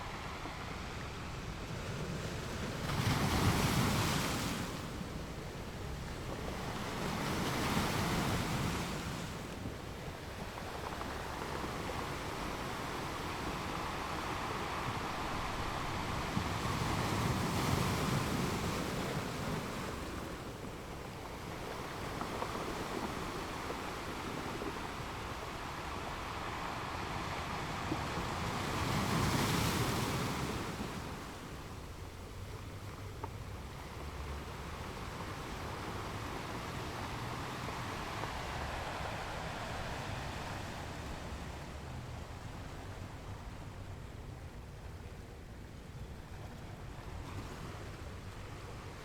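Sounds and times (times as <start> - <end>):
ocean surf: 0.0 - 49.0
waves breaking: 0.0 - 49.0.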